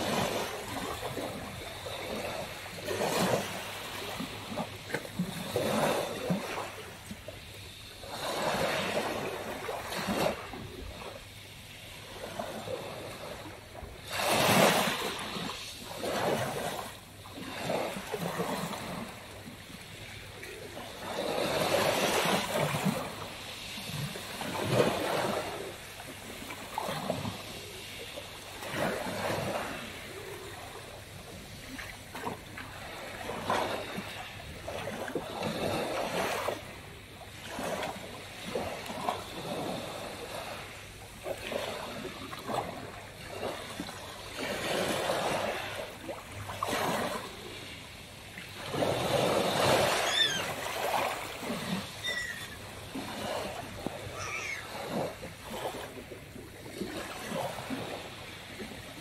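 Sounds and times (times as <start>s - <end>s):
waves lapping on pebble beach: 0.0s - 59.0s.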